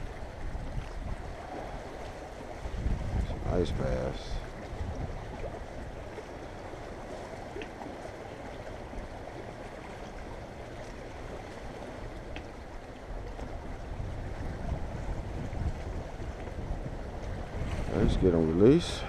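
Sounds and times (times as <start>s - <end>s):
wind buffeting microphone: 0.0s - 7.2s, 7.8s - 19.0s
choppy water: 0.0s - 19.0s.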